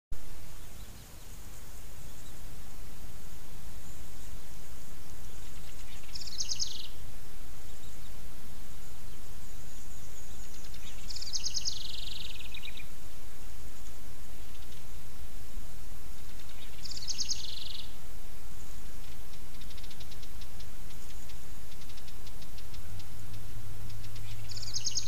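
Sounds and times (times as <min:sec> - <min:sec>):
songbird trills: 0:00.2 - 0:25.0
steady low rumble: 0:00.2 - 0:25.0.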